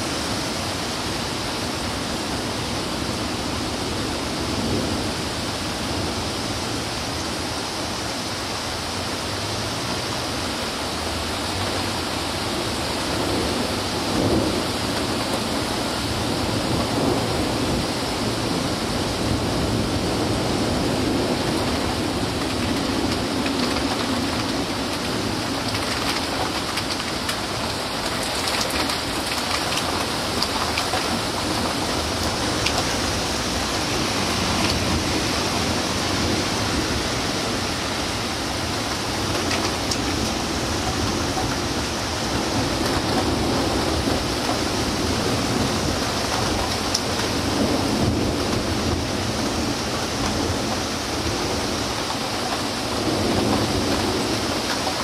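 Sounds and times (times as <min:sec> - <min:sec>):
heavy rain pouring: 0:00.0 - 0:55.0
sharp ticks of raindrops: 0:10.8 - 0:55.0.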